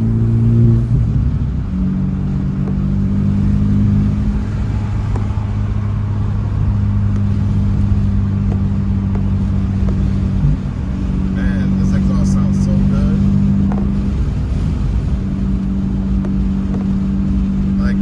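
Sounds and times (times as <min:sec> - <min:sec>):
car engine droning while driving: 0:00.0 - 0:18.0.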